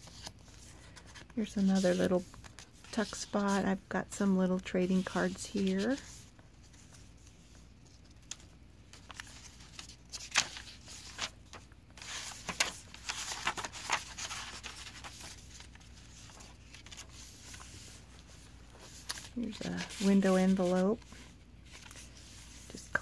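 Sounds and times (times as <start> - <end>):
paper pages rustling: 0.0 - 3.8, 4.9 - 23.0.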